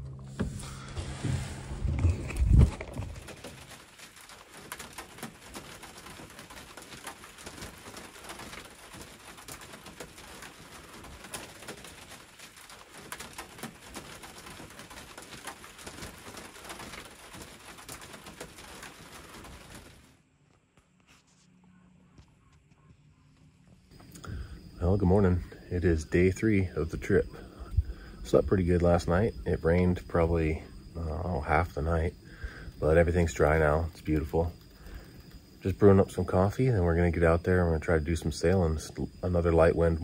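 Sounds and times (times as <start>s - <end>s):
rain on cabin roof: 0.0s - 20.3s, 23.9s - 40.0s.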